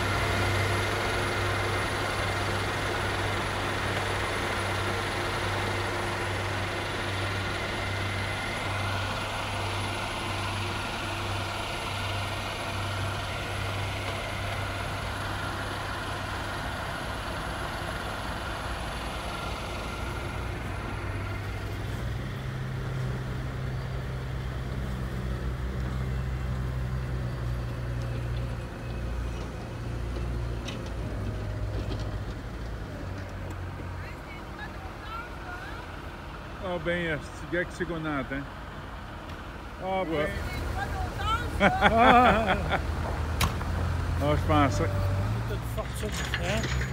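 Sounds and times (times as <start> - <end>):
snow-clearing machine engine hum: 0.0 - 46.9.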